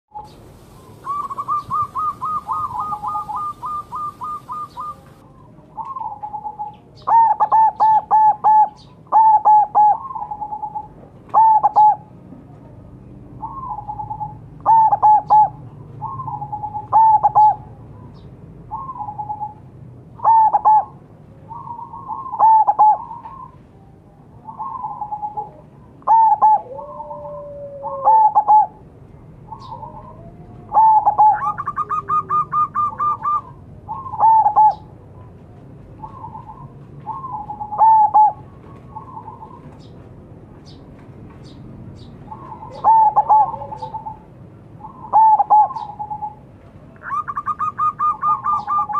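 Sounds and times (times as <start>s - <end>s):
dove cooing: 0.1s - 12.1s, 13.4s - 17.8s, 18.7s - 19.6s, 20.2s - 23.6s, 24.4s - 28.8s, 29.4s - 35.0s, 36.0s - 39.8s, 42.0s - 48.9s.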